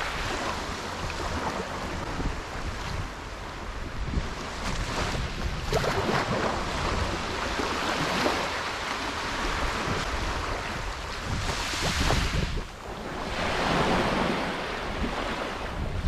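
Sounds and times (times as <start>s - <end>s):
waves washing on sand: 0.0s - 16.0s
wind on microphone: 0.0s - 16.0s.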